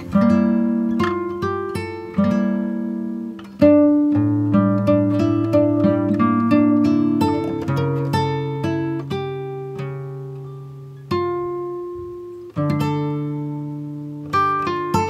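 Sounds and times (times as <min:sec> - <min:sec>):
acoustic guitar plucking: 0:00.0 - 0:15.0.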